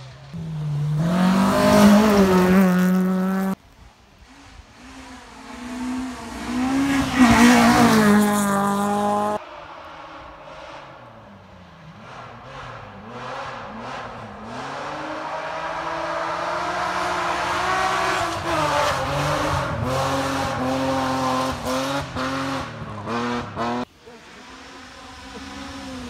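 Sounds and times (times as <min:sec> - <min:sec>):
rally car engine revving: 0:00.0 - 0:03.6, 0:04.2 - 0:26.0.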